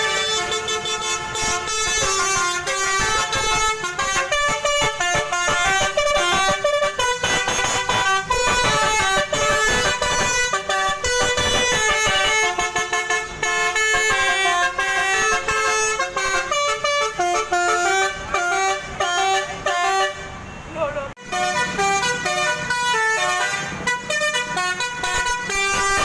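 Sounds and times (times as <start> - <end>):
bus air horn melody: 0.0 - 20.5, 21.2 - 26.0.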